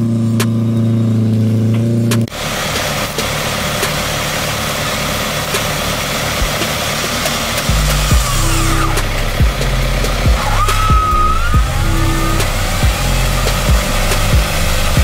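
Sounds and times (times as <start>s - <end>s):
off-road vehicle engine idling: 0.0s - 15.0s
vehicle engine crawling through mud: 0.0s - 15.0s.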